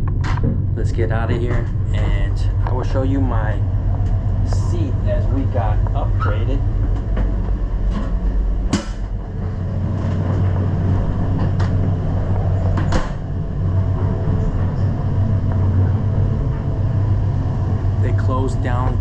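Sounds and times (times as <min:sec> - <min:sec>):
passenger train rumbling inside carriage: 0:00.0 - 0:19.0.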